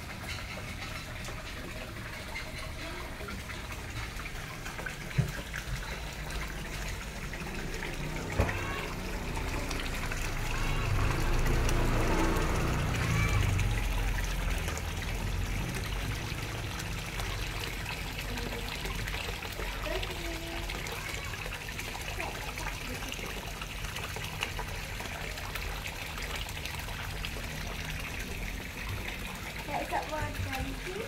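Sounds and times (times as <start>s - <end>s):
water trickling into pond: 0.0s - 31.0s.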